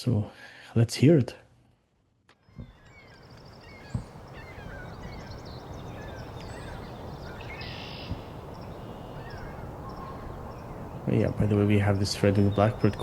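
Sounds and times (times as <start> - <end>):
songbirds chirping and trilling: 2.3 - 13.0.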